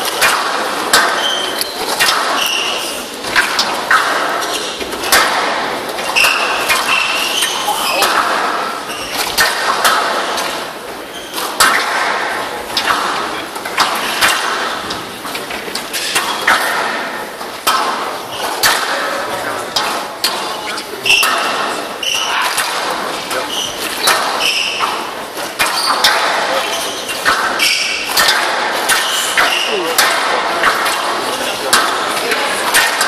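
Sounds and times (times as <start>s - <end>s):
echoing crowd noise: 0.0s - 33.0s
squash ball cracking off rackets: 0.0s - 33.0s.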